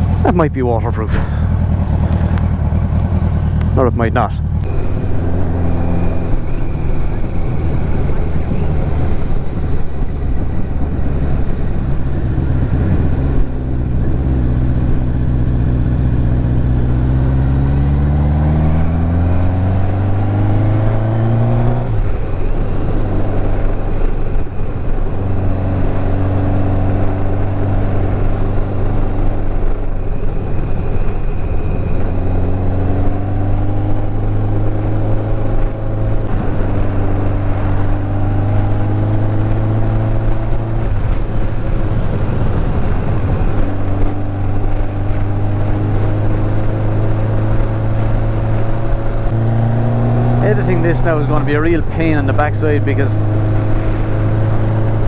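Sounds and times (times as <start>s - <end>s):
motorcycle engine running: 0.0s - 55.0s
wind rush: 0.0s - 55.0s.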